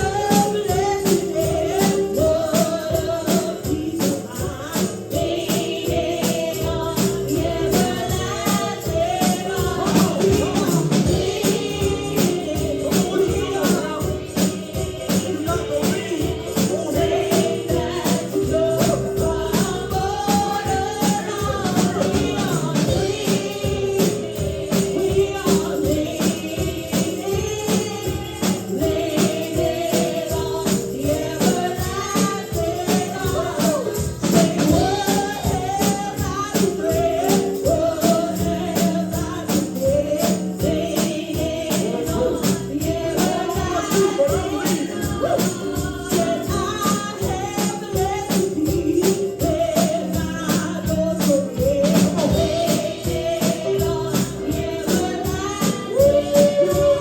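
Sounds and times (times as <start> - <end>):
gospel voices singing: 0.0 - 57.0
tambourine beat: 0.0 - 57.0.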